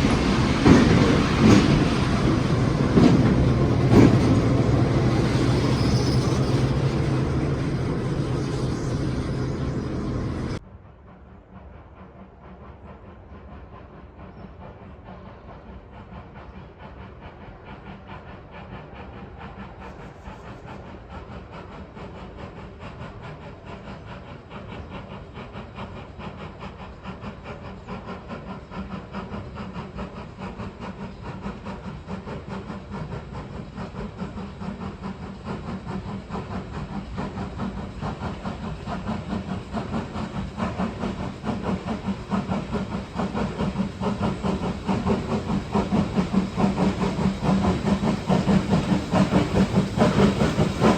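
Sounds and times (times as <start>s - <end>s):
steam hissing: 0.0s - 50.9s
steam locomotive running: 0.0s - 50.9s.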